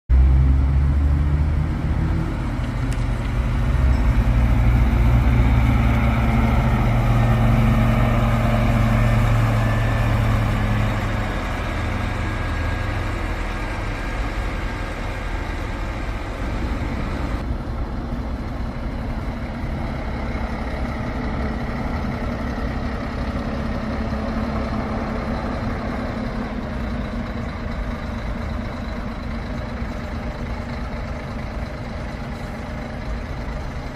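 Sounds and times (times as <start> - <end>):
diesel coach engine rumbling: 0.1 - 33.9.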